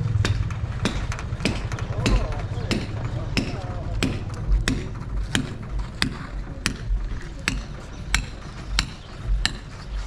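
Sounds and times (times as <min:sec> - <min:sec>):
hammer blows on masonry: 0:00.2 - 0:10.0.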